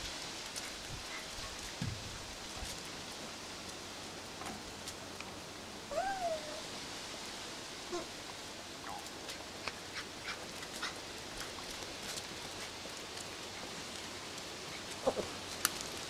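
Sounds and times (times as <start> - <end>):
outdoor hiss: 0.0 - 16.0.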